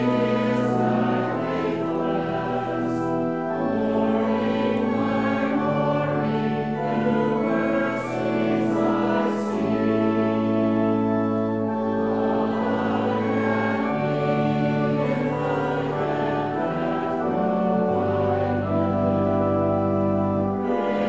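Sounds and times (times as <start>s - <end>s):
slow hymn chords: 0.0s - 21.0s
voices singing together: 0.0s - 21.0s.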